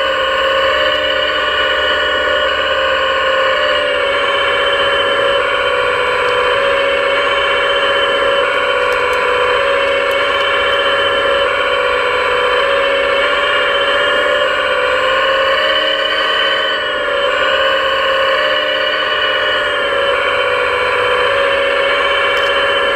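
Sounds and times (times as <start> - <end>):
hydraulic pump whining: 0.0 - 22.9.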